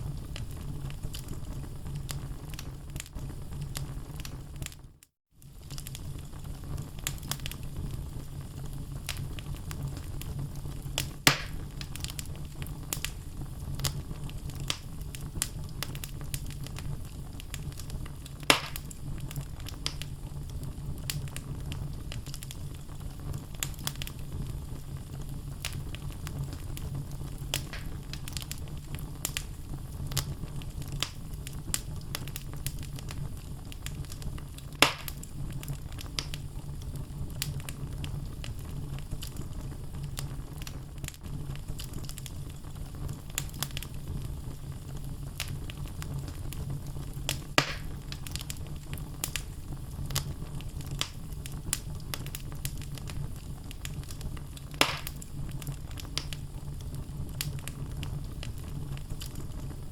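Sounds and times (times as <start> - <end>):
burning logs popping: 0.0 - 59.9
wood fire crackling: 0.0 - 59.9.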